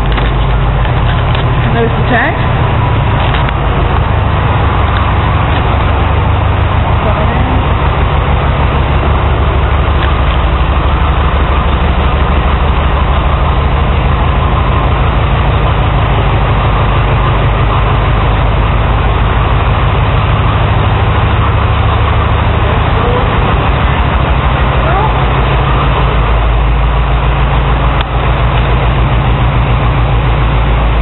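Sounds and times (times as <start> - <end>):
tractor engine running steadily: 0.0 - 31.0.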